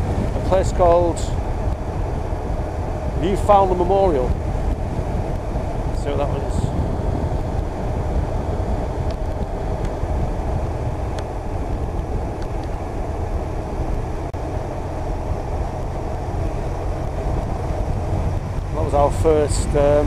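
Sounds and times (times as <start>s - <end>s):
motorcycle engine running: 0.0s - 20.0s
wind rushing: 0.0s - 20.0s.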